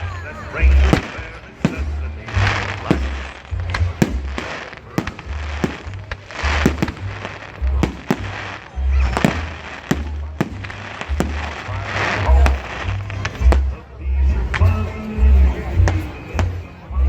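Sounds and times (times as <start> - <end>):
fireworks bangs: 0.0 - 15.0
fireworks crackling: 0.0 - 17.0.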